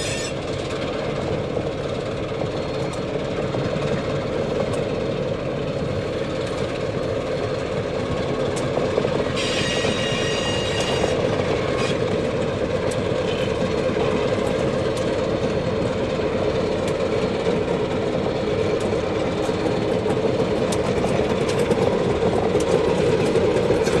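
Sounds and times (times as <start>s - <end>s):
train running along track: 0.0s - 24.0s.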